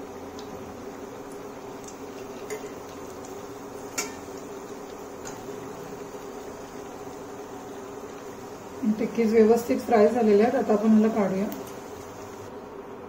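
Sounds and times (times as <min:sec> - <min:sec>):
food sizzling in hot oil: 0:00.0 - 0:12.6.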